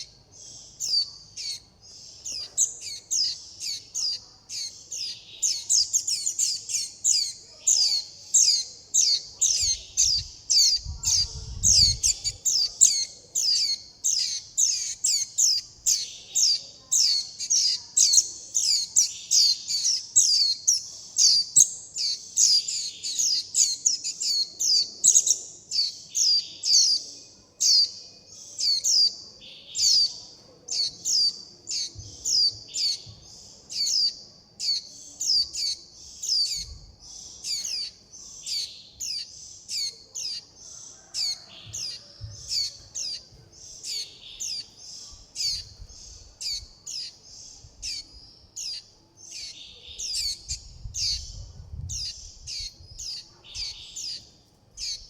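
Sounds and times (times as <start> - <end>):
young bird chip calls: 0.0 - 27.9, 28.5 - 55.0.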